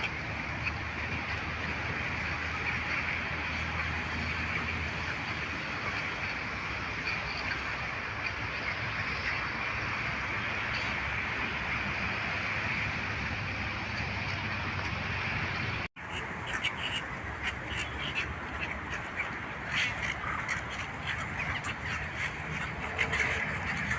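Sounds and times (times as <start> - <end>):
steady rushing noise: 0.0 - 23.9.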